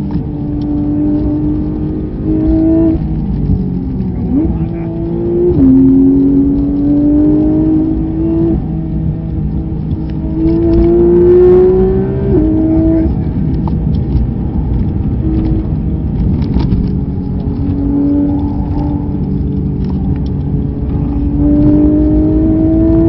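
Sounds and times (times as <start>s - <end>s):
race car engine accelerating: 0.0s - 23.0s
tyre noise: 0.0s - 23.0s
wind noise: 0.0s - 23.0s.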